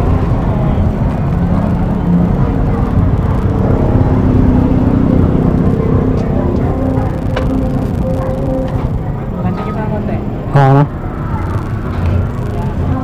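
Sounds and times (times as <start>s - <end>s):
motorcycles rumbling: 0.0s - 13.0s.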